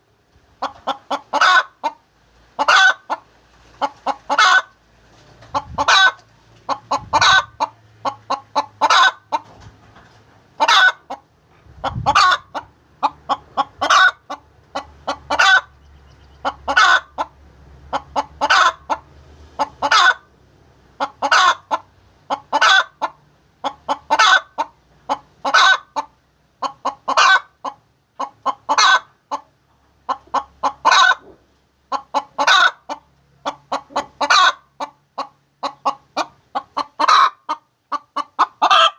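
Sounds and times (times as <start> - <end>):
hen cackling: 0.6 - 2.0, 2.6 - 4.8, 5.4 - 9.5, 10.6 - 20.3, 21.0 - 38.9.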